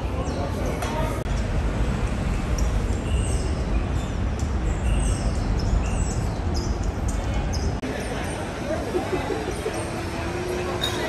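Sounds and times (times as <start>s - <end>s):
city rumble: 0.0s - 11.0s.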